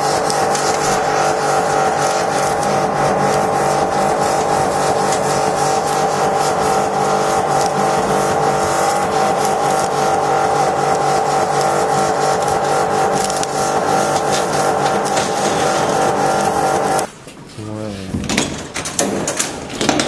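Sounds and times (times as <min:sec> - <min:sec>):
pressure washer spraying: 0:00.0 - 0:17.1
pump whine: 0:00.0 - 0:17.1.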